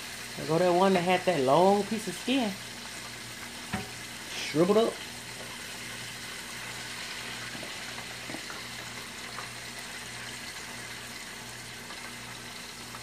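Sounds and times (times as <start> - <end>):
hot oil bubbling and sizzling: 0.0 - 13.0.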